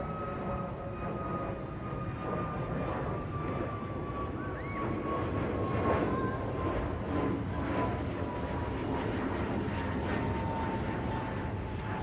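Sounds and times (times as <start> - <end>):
jet airliner flying overhead: 0.0 - 12.0.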